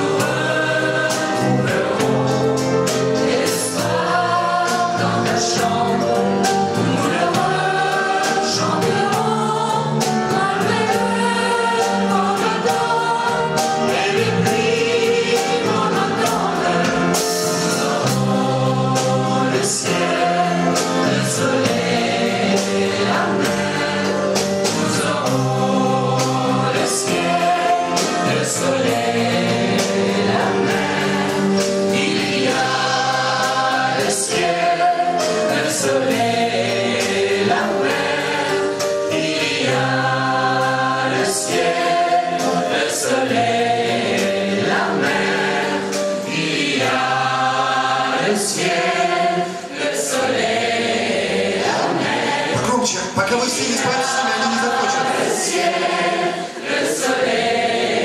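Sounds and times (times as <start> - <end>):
mixed choir singing pop song: 0.0 - 58.0.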